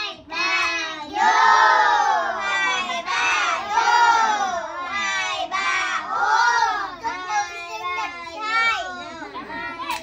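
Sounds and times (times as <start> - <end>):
voices singing together: 0.0 - 8.1.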